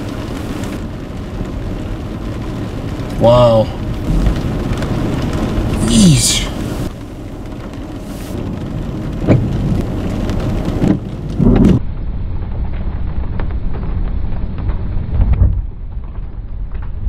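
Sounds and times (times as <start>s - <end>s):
thunder rumbling: 0.0s - 7.6s, 8.4s - 17.0s
heavy rain: 0.0s - 17.0s.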